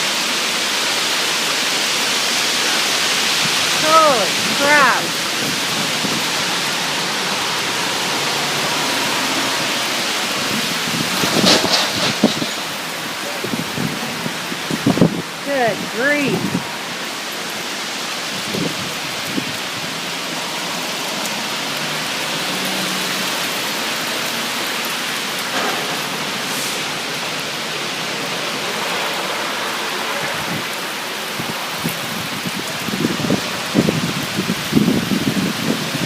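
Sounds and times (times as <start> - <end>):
heavy rain hiss: 0.0 - 36.0.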